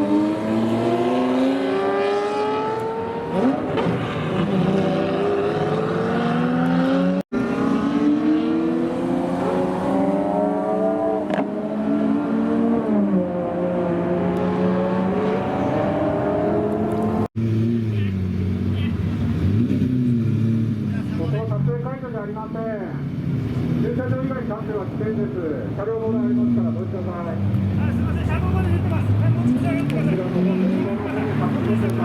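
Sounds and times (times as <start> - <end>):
sports cars accelerating loudly: 0.0 - 21.7, 26.0 - 32.0.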